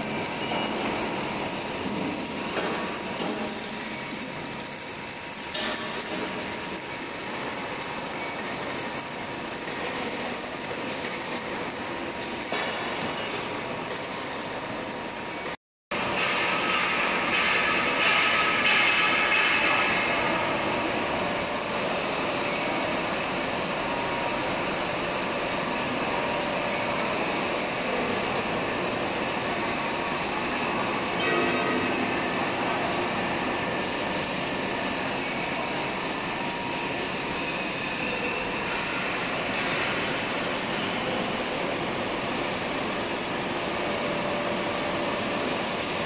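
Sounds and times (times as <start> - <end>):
workshop machinery noise: 0.0 - 46.0.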